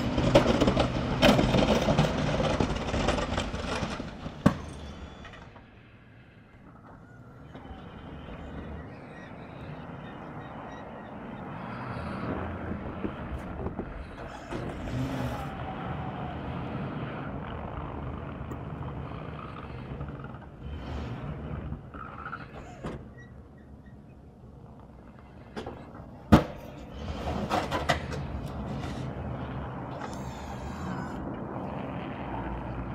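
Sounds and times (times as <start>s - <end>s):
snowplow plowing snow: 0.0s - 6.1s, 6.7s - 32.9s.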